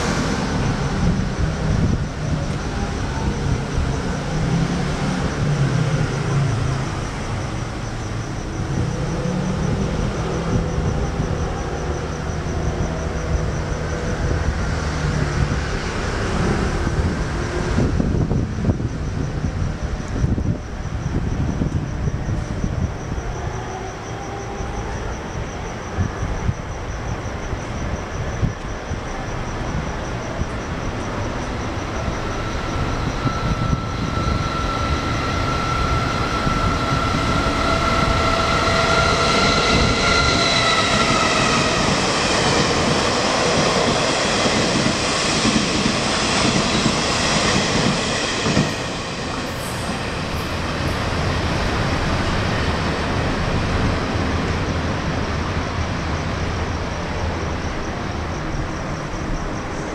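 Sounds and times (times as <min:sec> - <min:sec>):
high tone of approaching train: 0:00.0 - 0:59.9
train coaches rumbling and clattering: 0:00.0 - 0:59.9.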